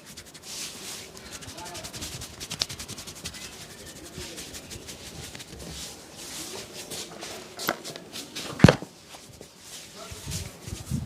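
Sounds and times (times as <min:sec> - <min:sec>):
hands rubbing over hair: 0:00.0 - 0:11.0.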